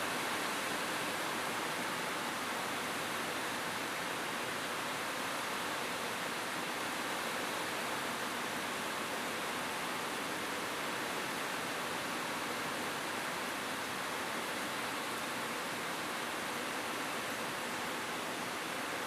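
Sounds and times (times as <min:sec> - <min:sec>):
rain on a rooftop: 0:00.0 - 0:19.0.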